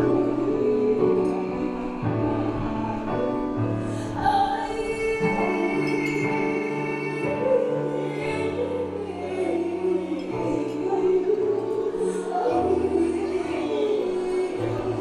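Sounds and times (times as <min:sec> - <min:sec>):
person singing long notes: 0:00.0 - 0:15.0.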